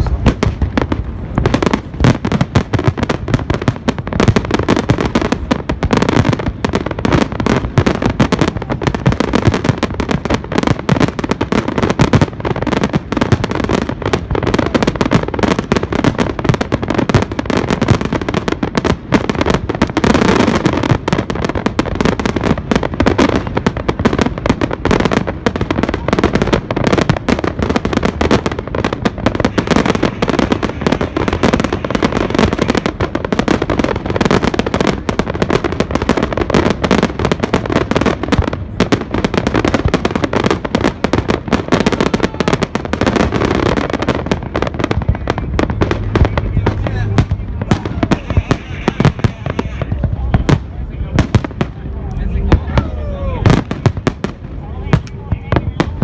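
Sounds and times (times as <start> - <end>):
fireworks cracks and bangs: 0.0 - 56.0.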